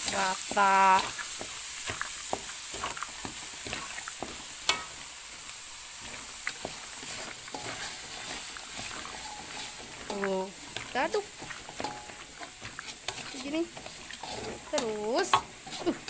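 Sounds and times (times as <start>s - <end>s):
food sizzling in a wok: 0.0s - 16.0s
spatula scraping a wok: 0.0s - 16.0s.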